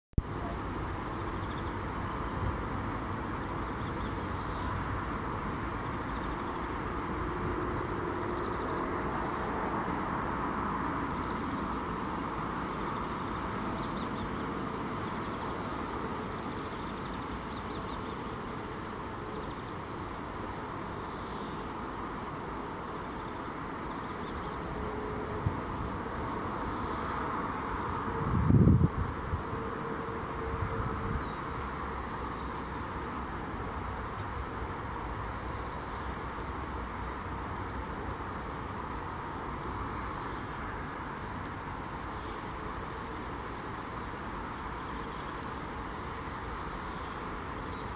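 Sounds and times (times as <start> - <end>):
distant traffic hum: 0.2 - 47.9.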